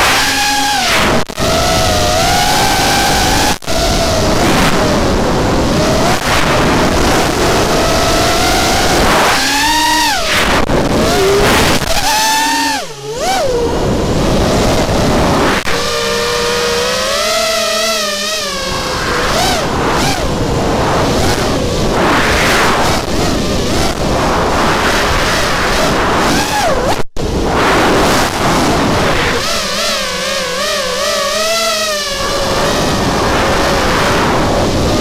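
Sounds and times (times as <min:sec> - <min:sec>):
quadcopter motors whining: 0:00.0 - 0:35.0.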